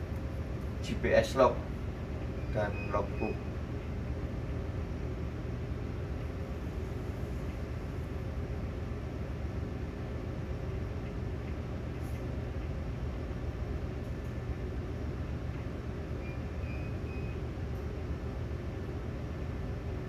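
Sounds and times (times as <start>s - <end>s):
ship machinery drone: 0.0s - 20.0s.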